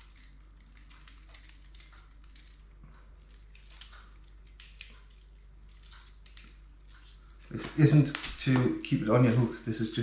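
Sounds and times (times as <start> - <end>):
soft ticks and rustles of handling: 0.0 - 10.0
steady low hum: 0.0 - 10.0.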